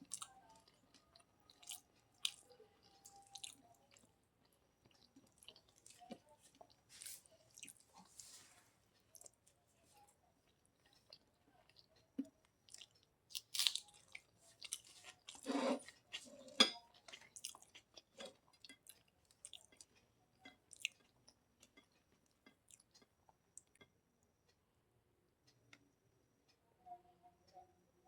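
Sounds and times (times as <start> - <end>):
person chewing food: 0.0 - 9.6, 10.4 - 24.0.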